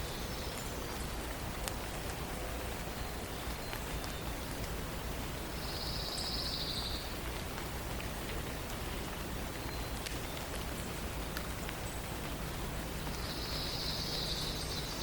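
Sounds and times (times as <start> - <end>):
light rain pattering: 0.0 - 15.0
water drips: 0.0 - 15.0.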